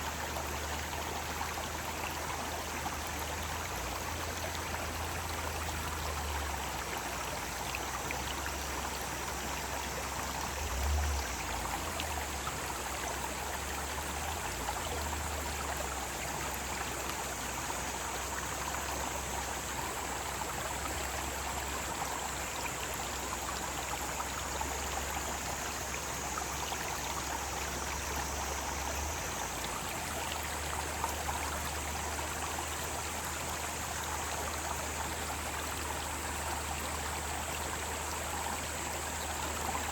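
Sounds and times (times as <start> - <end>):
cicadas droning: 0.0 - 39.9
stream flowing: 0.0 - 39.9.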